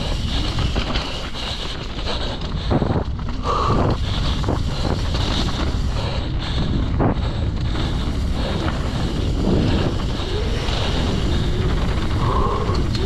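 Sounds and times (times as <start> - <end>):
bike rumbling on dirt trail: 0.0 - 13.0
wind buffeting microphone: 0.0 - 13.0.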